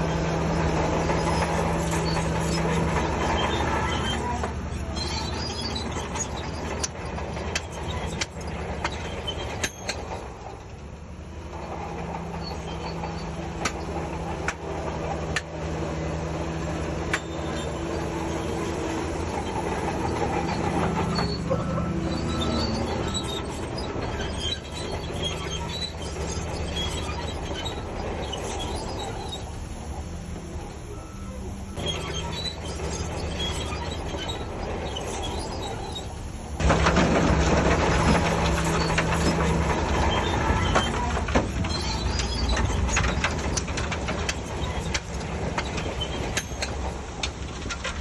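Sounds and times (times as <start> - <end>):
bulldozer diesel engine running: 0.0 - 48.0
steel tracks clanking and squealing: 0.0 - 48.0.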